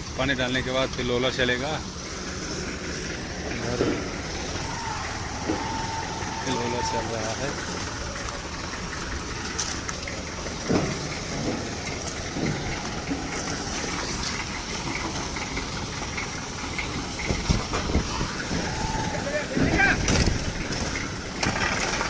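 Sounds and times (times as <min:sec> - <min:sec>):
road roller diesel engine running: 0:00.0 - 0:22.0.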